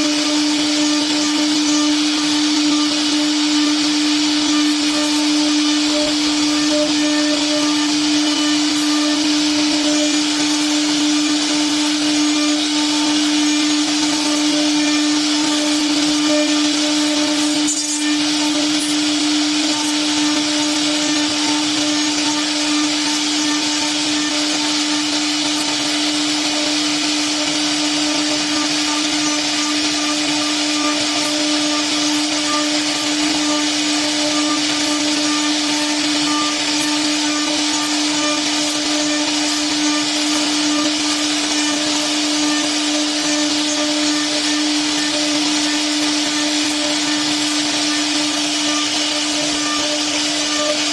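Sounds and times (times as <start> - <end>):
cnc router spindle whining: 0.0 - 50.9.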